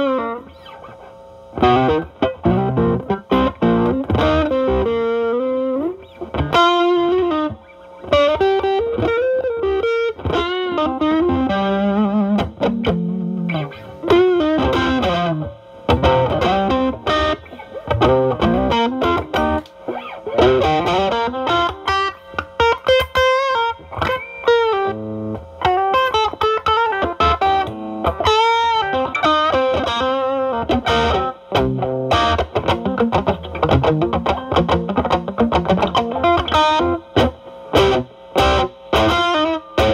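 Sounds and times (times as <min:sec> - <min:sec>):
overdriven electric guitar blues lead: 0:00.0 - 0:39.9.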